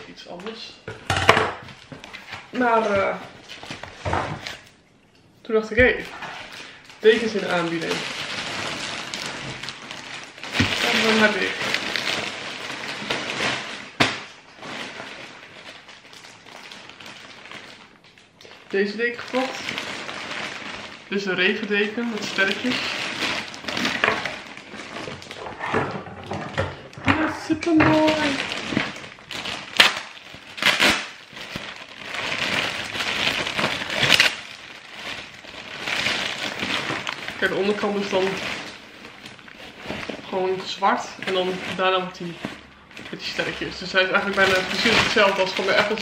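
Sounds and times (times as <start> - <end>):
plastic bag crinkling: 1.5 - 4.8, 5.6 - 46.0.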